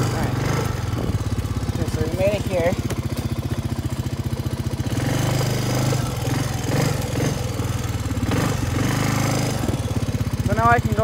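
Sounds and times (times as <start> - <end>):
atv engine idling and revving: 0.0 - 11.0.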